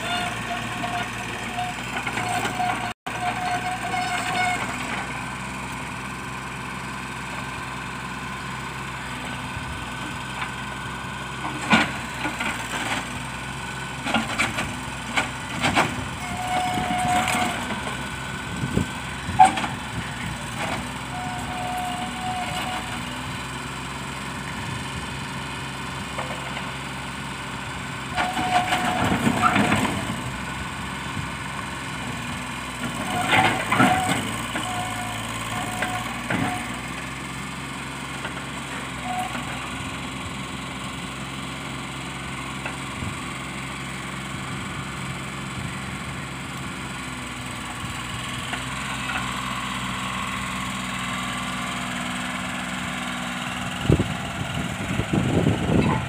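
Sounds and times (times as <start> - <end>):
small diesel engine running: 0.0 - 56.0.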